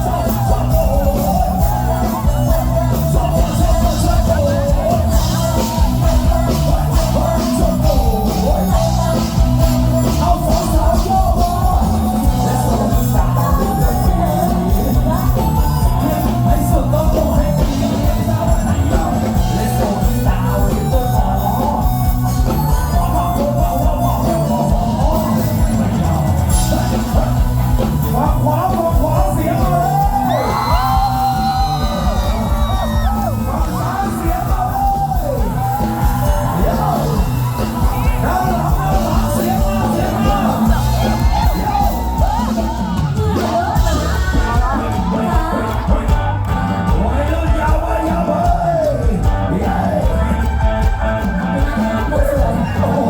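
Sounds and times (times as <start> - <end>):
live band music: 0.0 - 53.0
person singing and calling out: 0.0 - 53.0.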